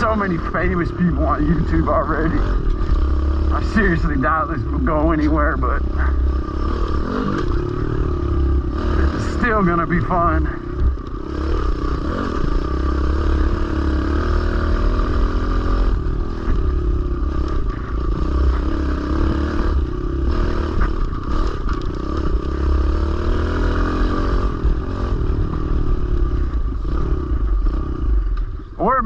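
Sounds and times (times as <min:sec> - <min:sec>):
small motorbike engine revving: 0:00.1 - 0:28.6.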